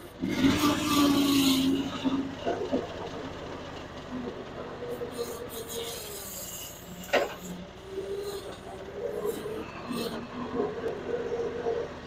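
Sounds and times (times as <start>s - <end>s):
wheel loader engine running: 0.0s - 12.0s.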